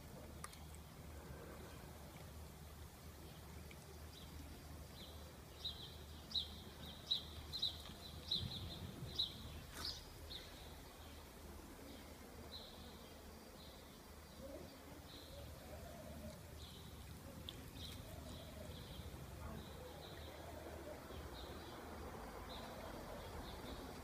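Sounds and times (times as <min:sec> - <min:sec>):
faint outdoor hum: 0:00.0 - 0:24.0.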